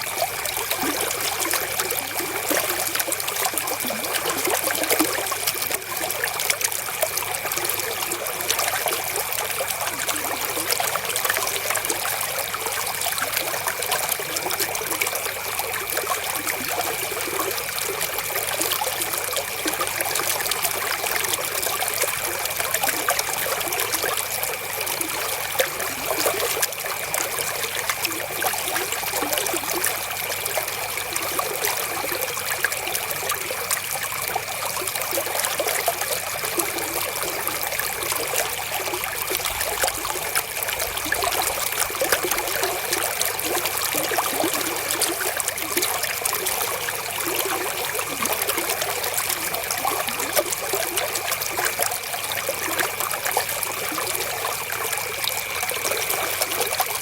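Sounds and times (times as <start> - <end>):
river water babbling: 0.0 - 57.0.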